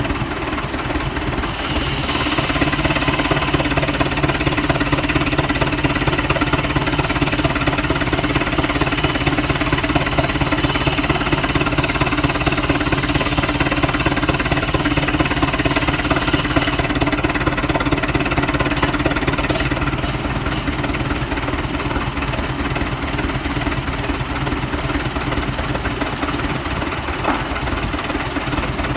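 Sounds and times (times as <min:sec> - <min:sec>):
saw whine cutting wood: 0:00.0 - 0:23.7
tractor engine knocking: 0:00.0 - 0:28.9.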